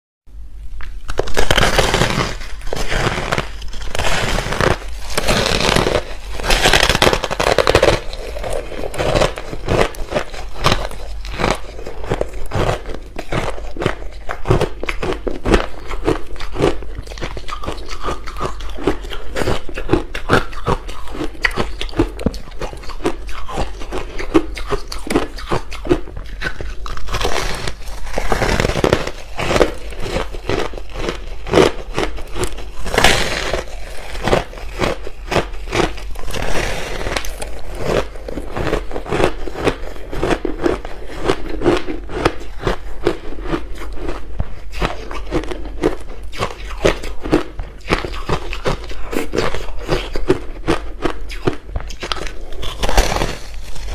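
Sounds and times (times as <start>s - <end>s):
crunching ice: 1.1s - 53.9s.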